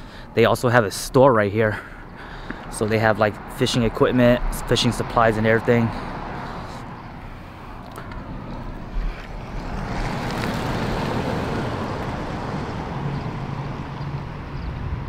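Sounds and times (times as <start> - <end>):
truck driving past: 2.7 - 15.0.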